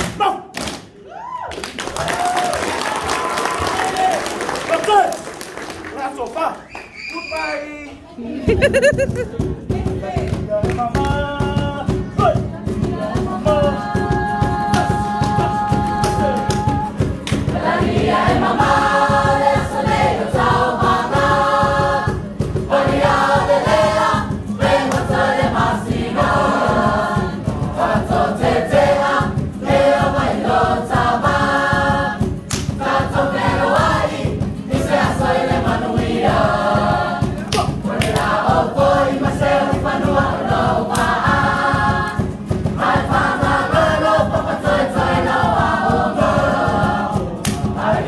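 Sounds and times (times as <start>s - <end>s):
group singing in harmony: 8.2s - 48.0s
steady beat: 8.5s - 48.0s.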